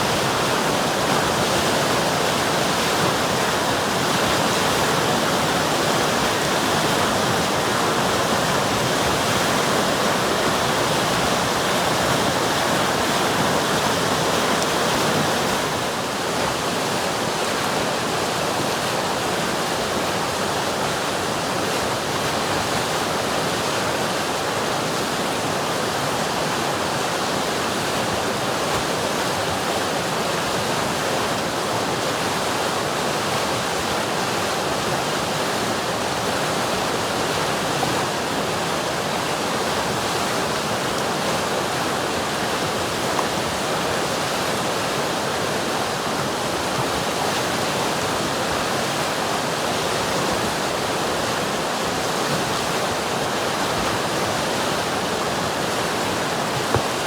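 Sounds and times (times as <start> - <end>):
river water rushing over rocks: 0.0 - 57.0.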